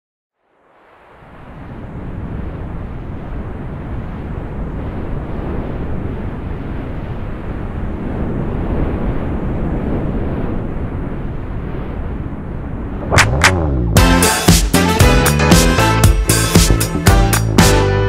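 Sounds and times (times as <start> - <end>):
steady rushing rumbling noise: 0.7 - 17.6.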